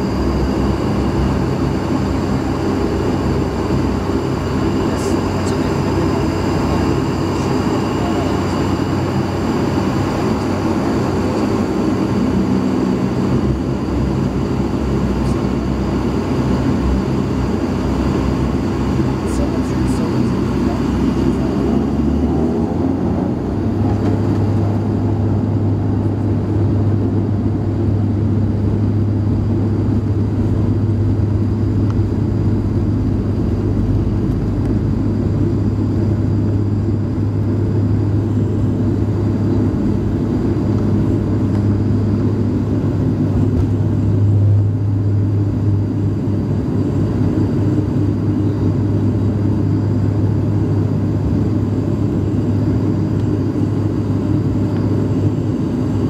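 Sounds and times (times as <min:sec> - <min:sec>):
engine rumble: 0:00.0 - 0:56.0
propeller hum: 0:00.0 - 0:56.0.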